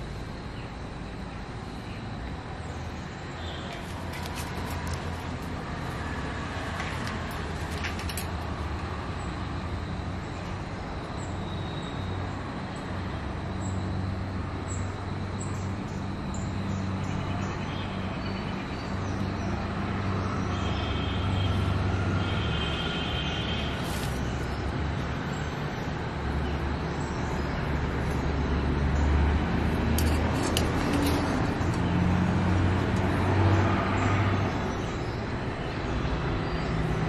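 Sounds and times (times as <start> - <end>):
low rumble of road traffic: 0.0 - 37.0.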